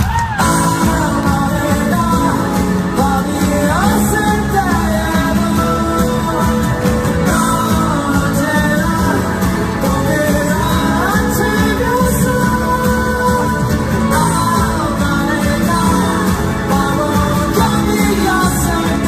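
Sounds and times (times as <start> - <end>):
electric guitar: 0.0 - 19.0
man singing into a microphone: 0.2 - 19.0.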